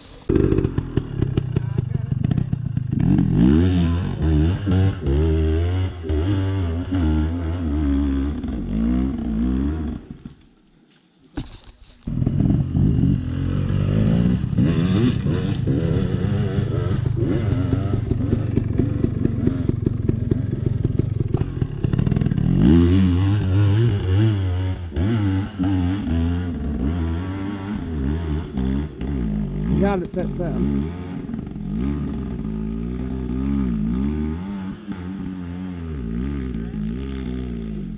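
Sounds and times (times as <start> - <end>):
dirt bike engine revving: 0.0 - 10.3, 12.1 - 37.9.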